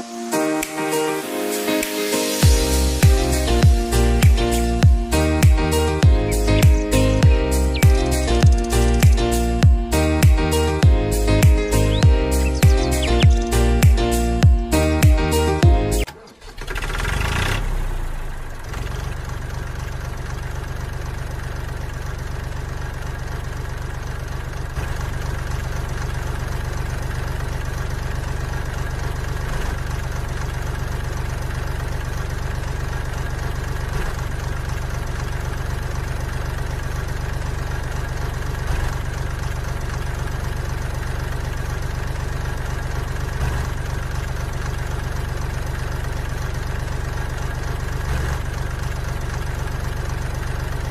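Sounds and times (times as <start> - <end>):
engine idling: 2.4 - 50.9.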